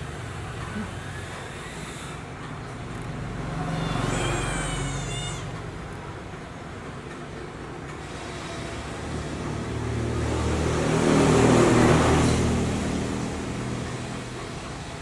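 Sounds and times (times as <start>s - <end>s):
motor vehicle passing by: 0.0s - 6.4s, 8.0s - 15.0s.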